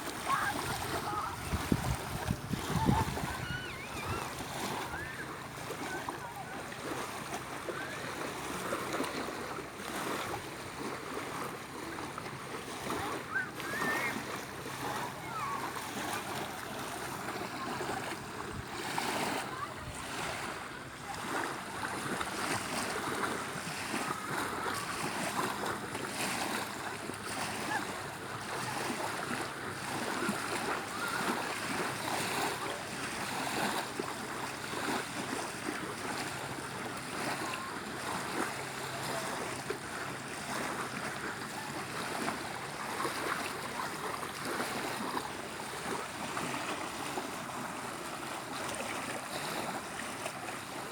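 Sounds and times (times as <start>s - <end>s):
waves washing onto shore: 0.0s - 50.9s.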